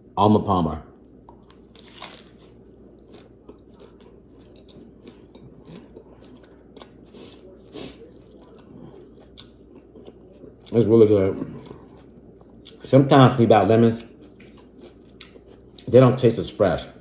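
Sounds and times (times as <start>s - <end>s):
person chewing food: 1.0s - 13.1s, 13.8s - 16.1s.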